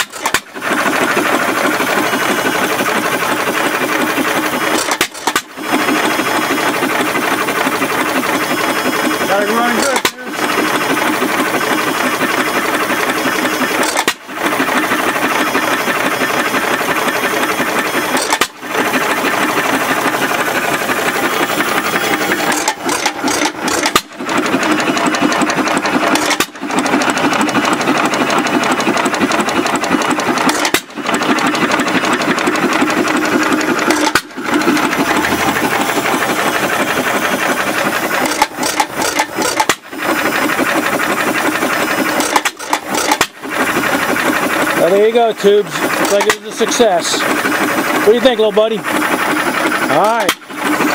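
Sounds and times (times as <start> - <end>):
stationary engine chuffing: 0.0 - 50.9.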